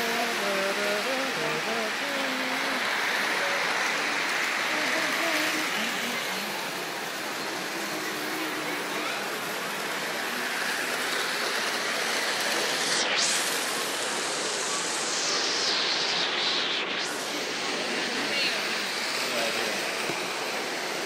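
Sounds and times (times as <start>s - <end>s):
faint murmur of voices: 0.0s - 21.0s
rushing hall background noise: 0.0s - 21.0s.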